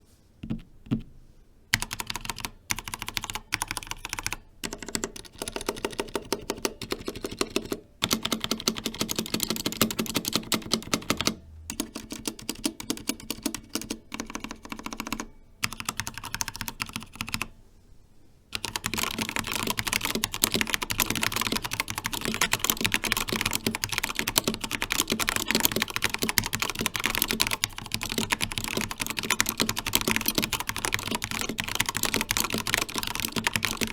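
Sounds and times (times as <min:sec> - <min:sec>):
mechanical keyboard typing: 0:01.7 - 0:17.5, 0:18.5 - 0:33.9.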